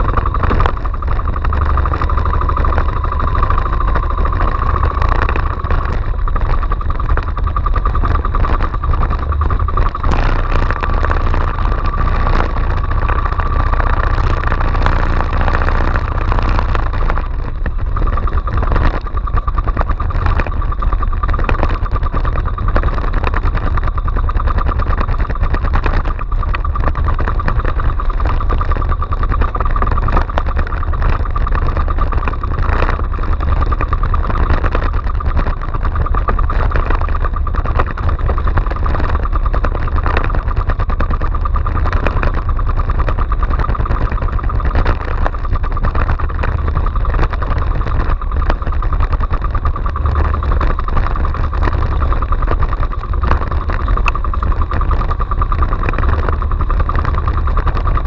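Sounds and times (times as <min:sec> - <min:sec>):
boat engine droning: 0:00.0 - 0:58.0
engine whine: 0:00.0 - 0:58.0
wind: 0:00.0 - 0:58.0.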